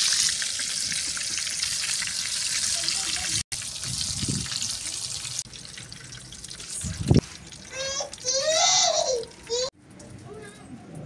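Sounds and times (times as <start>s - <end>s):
deep-frying sizzle and crackle: 0.0s - 9.6s.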